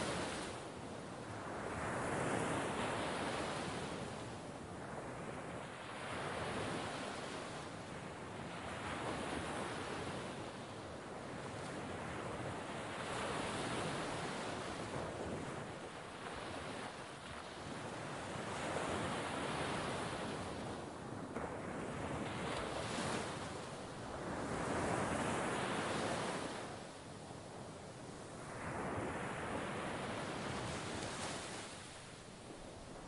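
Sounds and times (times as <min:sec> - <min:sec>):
sea waves washing onto shore: 0:00.0 - 0:33.0.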